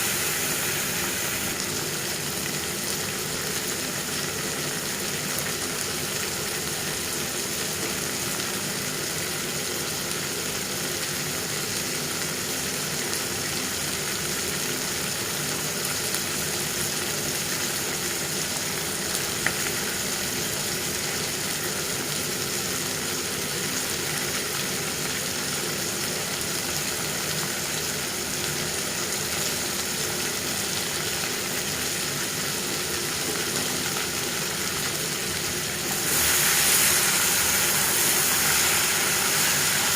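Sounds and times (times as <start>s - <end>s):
curry sizzling in oil: 0.0s - 39.9s.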